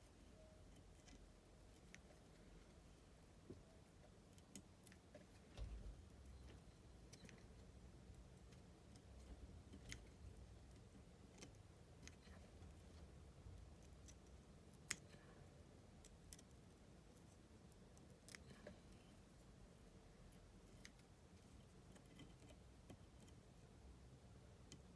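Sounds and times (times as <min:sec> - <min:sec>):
low steady hum: 0:00.0 - 0:24.9.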